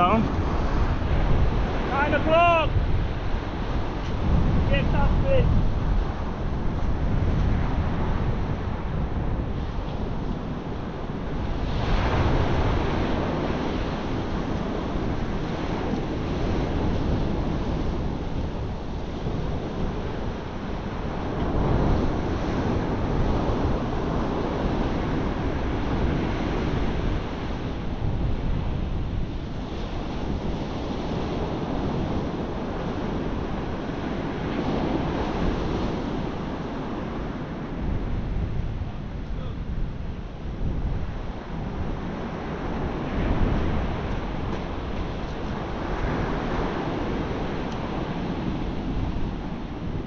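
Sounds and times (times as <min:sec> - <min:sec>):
surf breaking on beach: 0:00.0 - 0:50.0
wind buffeting microphone: 0:00.0 - 0:50.0.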